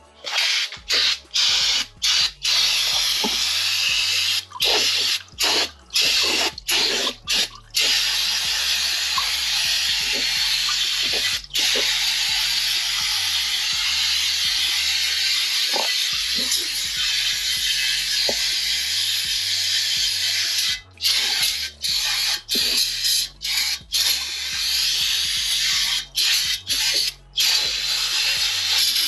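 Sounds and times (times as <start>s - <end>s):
aerosol can spraying hiss: 0.2s - 29.0s.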